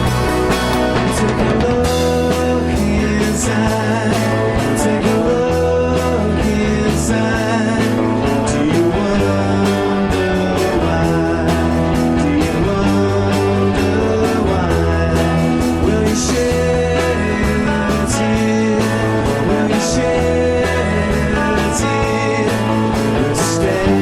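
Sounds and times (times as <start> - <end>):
psychedelic rock song with singing: 0.0 - 24.0.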